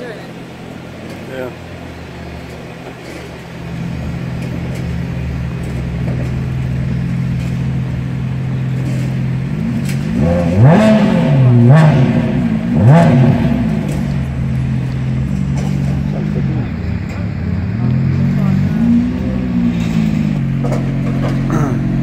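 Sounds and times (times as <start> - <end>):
car engine idling: 0.0 - 22.0
car engine revving: 0.0 - 22.0.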